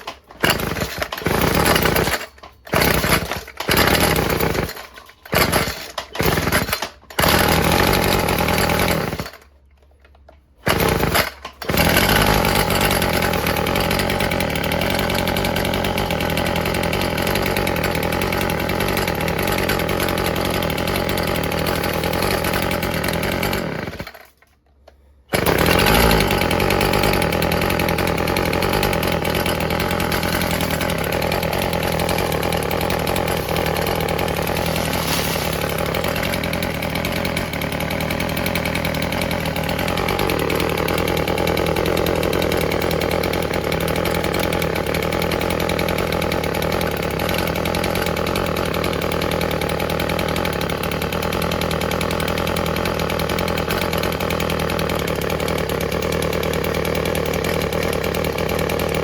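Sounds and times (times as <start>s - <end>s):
string trimmer engine running: 0.0s - 59.0s.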